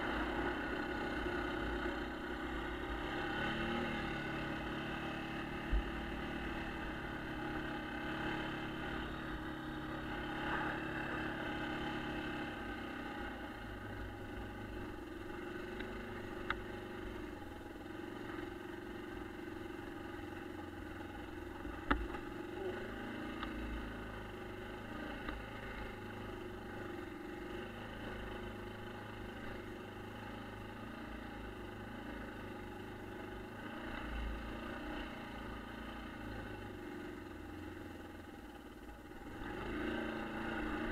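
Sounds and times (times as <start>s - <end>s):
four-stroke engine running: 0.0s - 40.9s.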